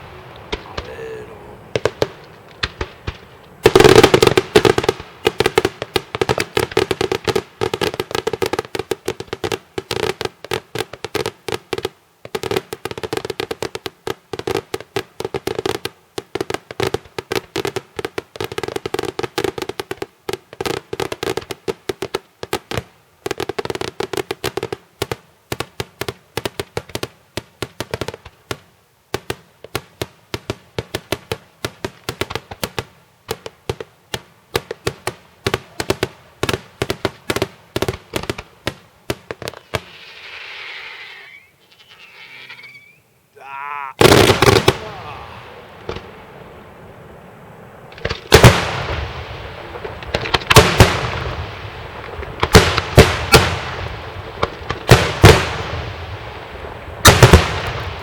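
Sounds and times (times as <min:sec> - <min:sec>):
fireworks bangs and cracks: 0:00.0 - 0:40.0, 0:44.0 - 0:47.2, 0:47.8 - 0:58.0.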